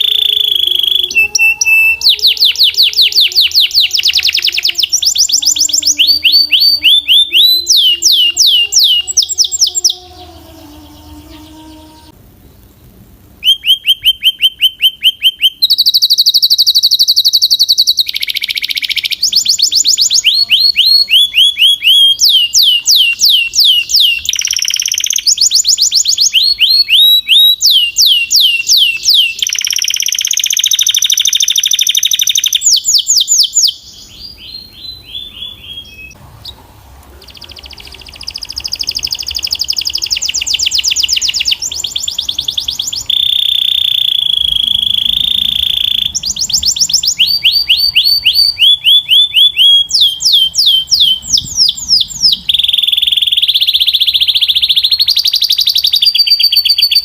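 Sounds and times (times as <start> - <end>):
canary singing: 0.0 - 12.2, 13.4 - 57.0.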